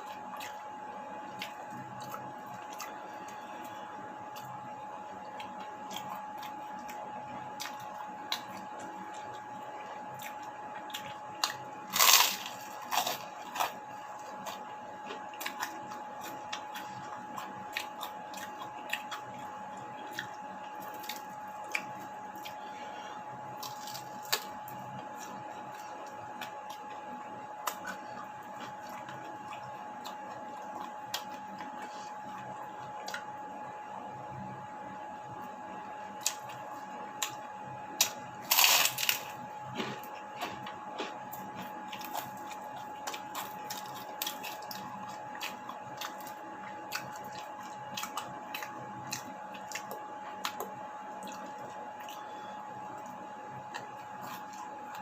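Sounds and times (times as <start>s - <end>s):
person chewing and crunching: 0.0s - 0.7s, 1.3s - 4.6s, 5.2s - 33.3s, 36.2s - 55.0s
steady high-pitched hum: 0.0s - 55.0s.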